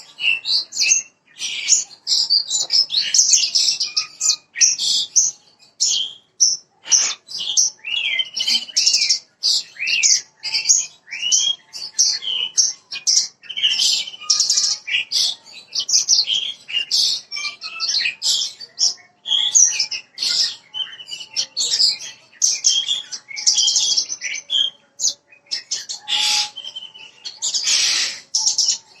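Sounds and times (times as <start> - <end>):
bird singing chirps and trills: 0.0 - 29.0.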